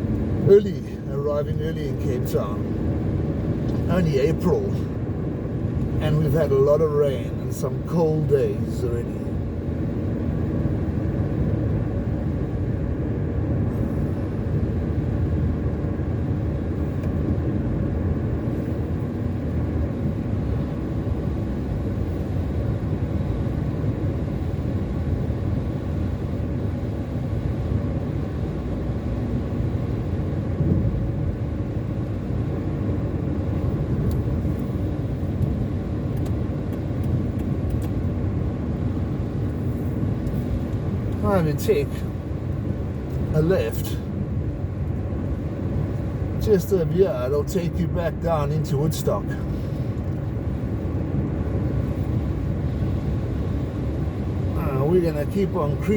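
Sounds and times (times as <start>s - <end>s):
car engine hum: 0.0s - 55.9s.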